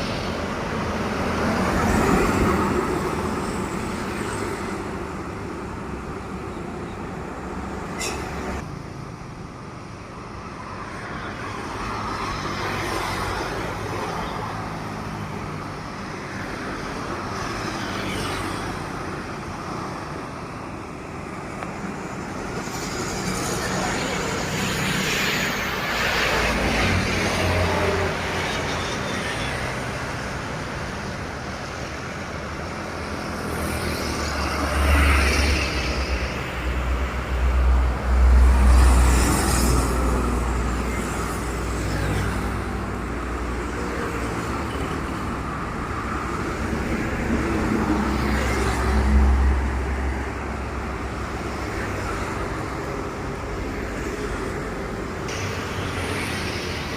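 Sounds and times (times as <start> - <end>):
heavy trucks passing: 0.0 - 9.1, 12.6 - 56.9.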